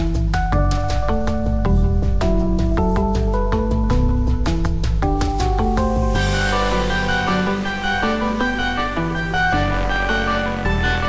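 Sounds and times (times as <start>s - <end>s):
background music with low bass: 0.0s - 11.0s.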